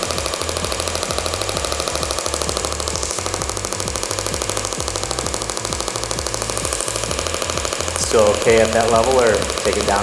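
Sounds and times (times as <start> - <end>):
rapid even clicking: 0.0 - 10.0.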